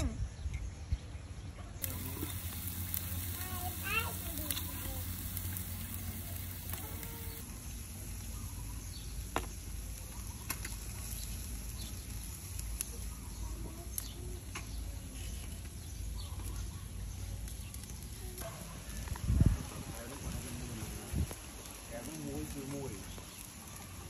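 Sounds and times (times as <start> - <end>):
charcoal popping: 1.8 - 24.0.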